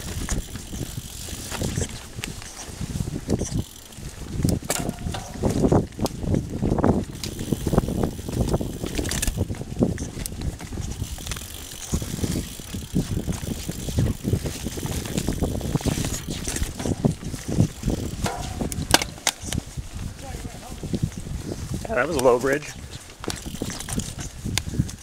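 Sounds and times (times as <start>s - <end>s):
tyres rolling over leaves: 0.0s - 24.3s
bike rattling over bumps: 0.0s - 25.0s.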